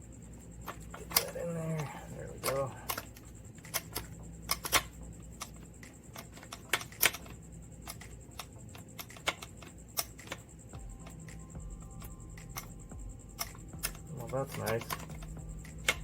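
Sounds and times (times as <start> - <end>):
tools clicking and knocking: 0.6 - 16.0.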